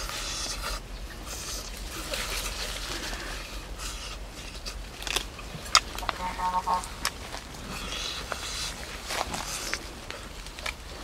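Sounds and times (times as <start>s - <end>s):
man chewing and lip-smacking: 0.0s - 11.0s.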